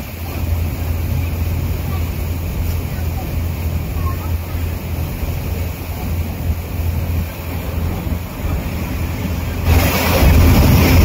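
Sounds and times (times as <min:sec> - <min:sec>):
ferry engine low hum: 0:00.0 - 0:11.0
rush of wind and water: 0:00.0 - 0:11.0.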